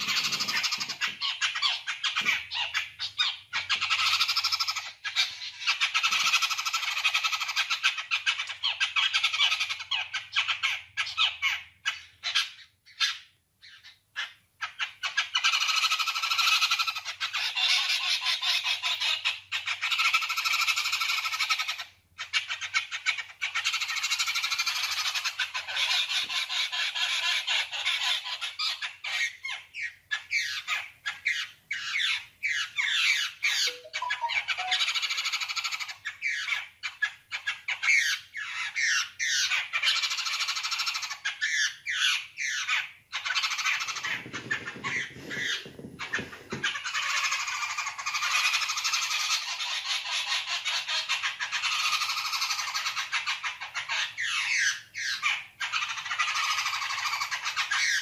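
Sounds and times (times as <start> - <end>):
flock of small birds chirping: 0.0 - 58.0.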